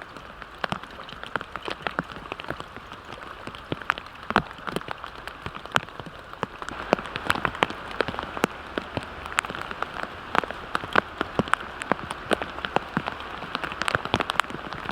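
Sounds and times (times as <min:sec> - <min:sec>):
heavy rain falling: 0:00.0 - 0:14.9
raindrops ticking close by: 0:00.0 - 0:14.9.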